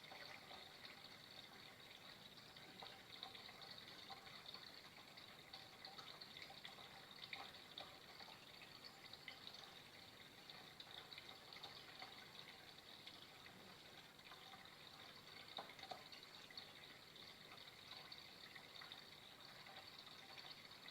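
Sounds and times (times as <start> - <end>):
water trickling: 0.0 - 20.9.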